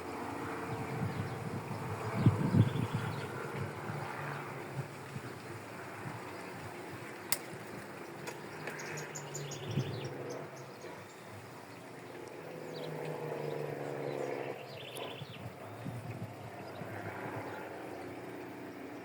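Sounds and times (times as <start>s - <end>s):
low engine hum: 0.0s - 19.0s
small birds chirping: 0.0s - 19.0s.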